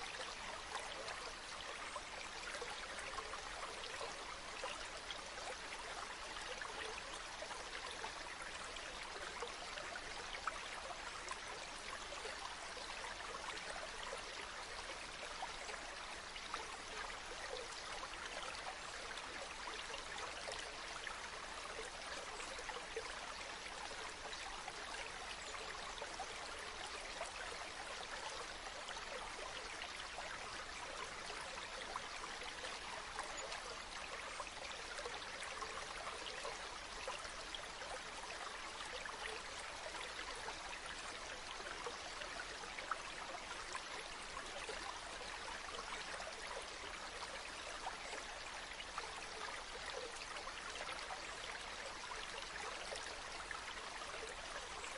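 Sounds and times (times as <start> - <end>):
stream water rushing and bubbling: 0.0 - 54.9.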